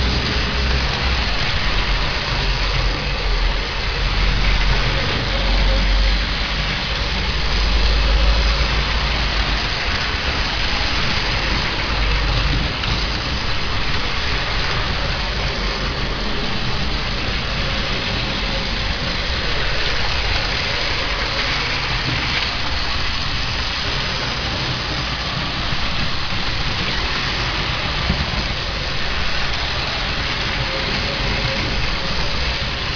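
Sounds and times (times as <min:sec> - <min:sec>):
wheels rattling on track: 0:00.0 - 0:32.9.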